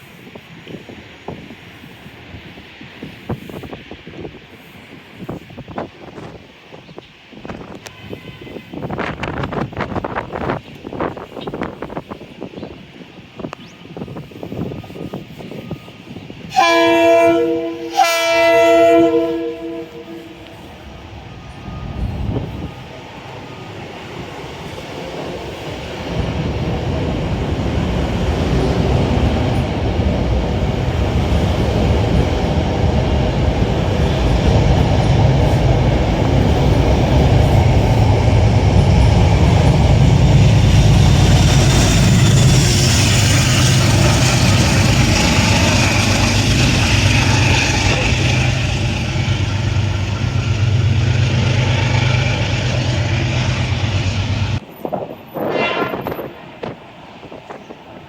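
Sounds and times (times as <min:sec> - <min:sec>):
train hiss: 0:00.0 - 0:54.7
train rumble: 0:00.0 - 0:58.0.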